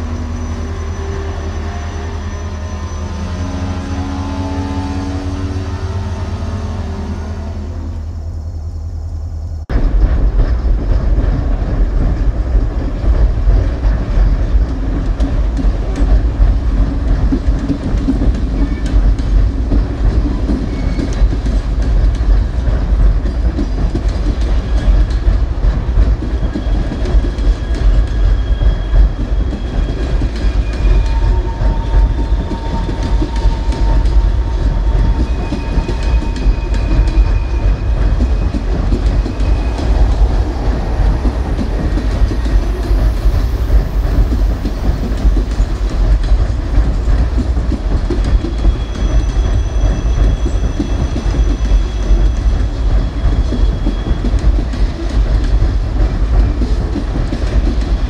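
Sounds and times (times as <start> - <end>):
railroad cars rumbling past: 0.0 - 58.0
wheels clacking over rail joints: 9.8 - 58.0.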